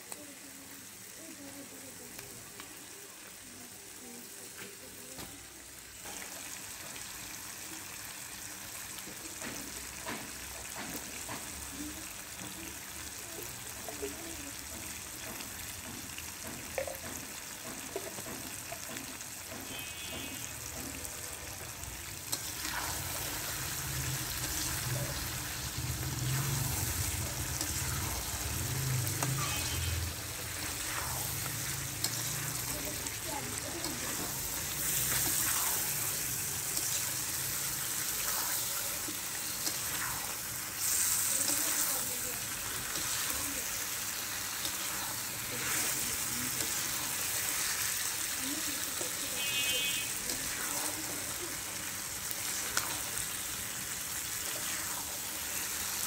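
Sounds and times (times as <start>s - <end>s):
curry sizzling in a pan: 0.0s - 56.0s.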